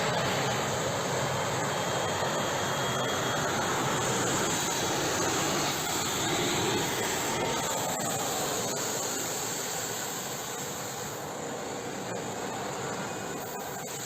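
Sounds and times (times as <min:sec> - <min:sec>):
gas turbine engine whistling: 0:00.0 - 0:14.0.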